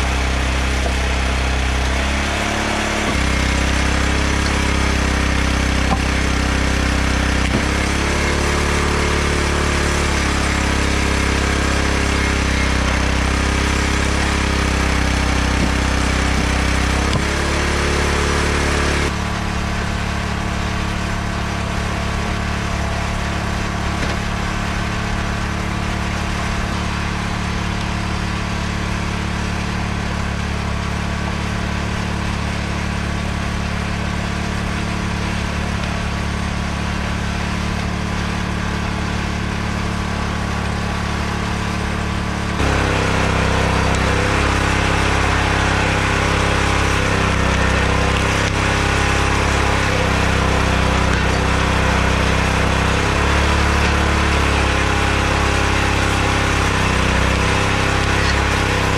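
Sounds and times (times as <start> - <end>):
small gas engine running: 0.0 - 58.9.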